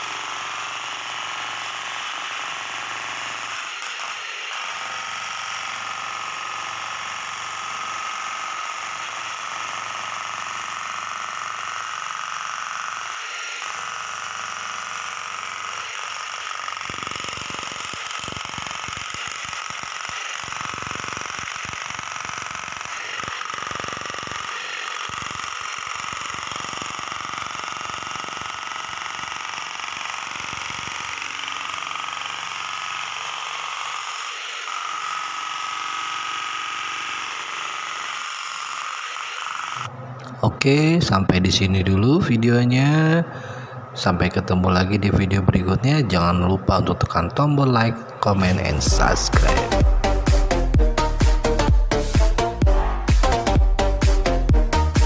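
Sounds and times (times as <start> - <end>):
jackhammer hammering: 0.0 - 39.9, 41.2 - 55.0.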